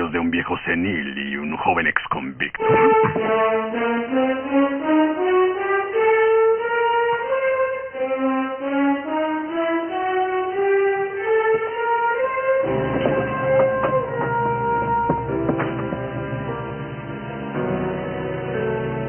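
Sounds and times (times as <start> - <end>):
slow orchestral melody: 2.6 - 19.0.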